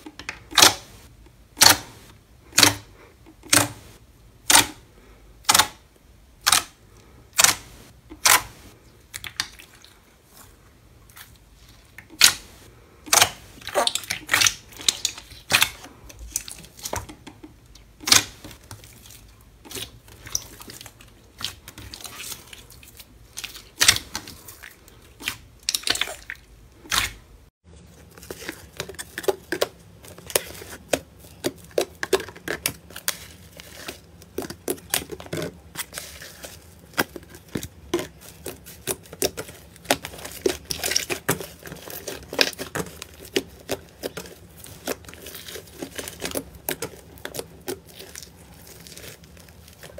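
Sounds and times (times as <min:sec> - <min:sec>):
crumbly slime crackling: 0:00.0 - 0:49.9.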